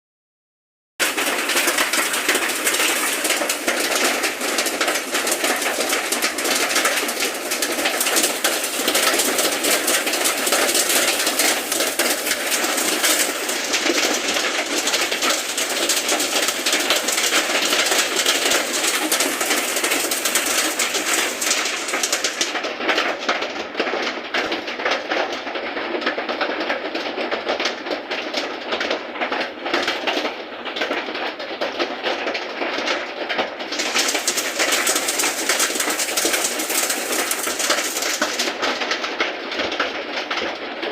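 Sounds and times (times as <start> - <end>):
rain and hail pattering: 1.0 - 40.9.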